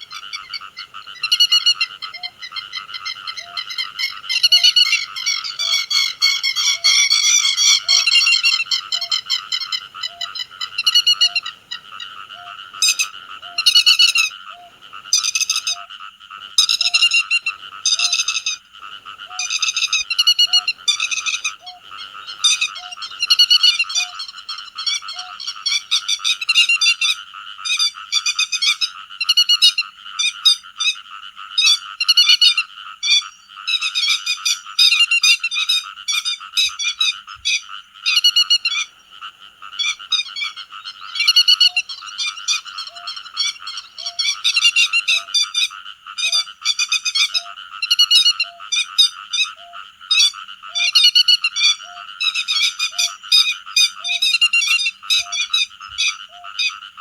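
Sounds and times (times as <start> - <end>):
recorded bird calls: 0.0 - 57.0.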